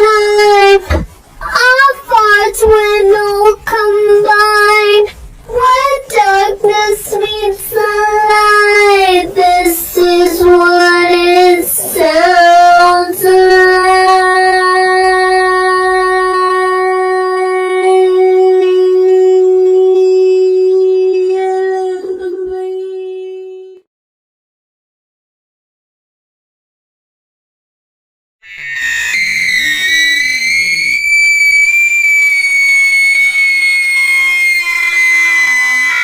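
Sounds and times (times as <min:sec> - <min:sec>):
high voice singing: 0:00.0 - 0:23.8, 0:28.4 - 0:36.0.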